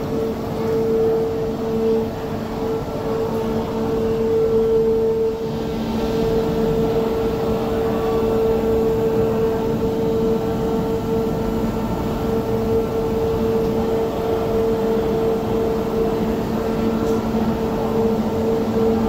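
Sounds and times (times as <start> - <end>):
funicular train mechanical hum: 0.0 - 19.0.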